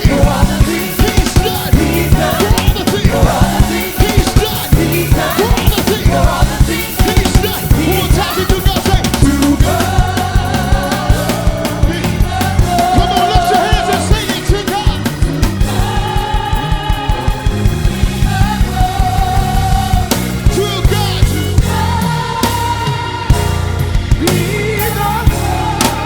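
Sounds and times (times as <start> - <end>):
fast drum kit strokes: 0.0 - 26.0
worship band playing: 0.0 - 26.0.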